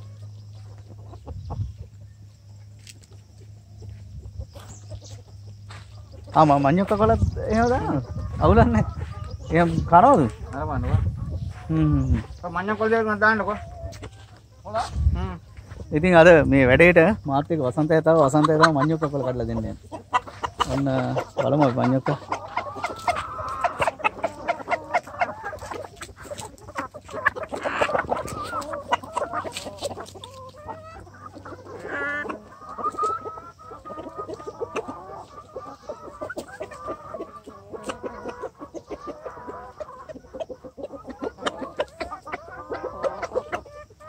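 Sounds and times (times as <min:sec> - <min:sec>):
chickens clucking and calling: 0:00.0 - 0:44.0.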